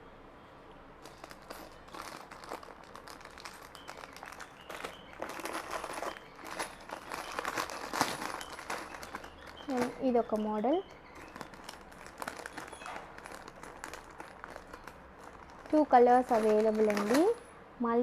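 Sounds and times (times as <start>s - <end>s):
plastic packaging crinkling: 1.0s - 17.5s.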